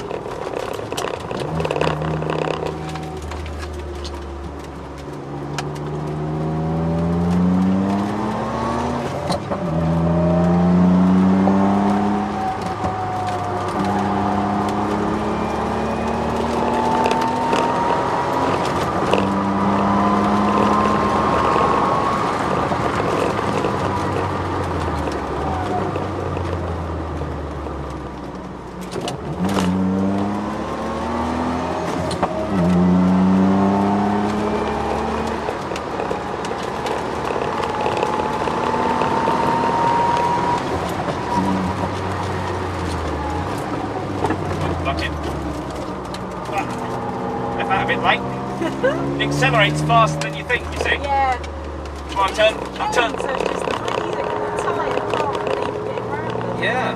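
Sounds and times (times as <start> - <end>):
car engine pulling hard: 0.0 - 56.9.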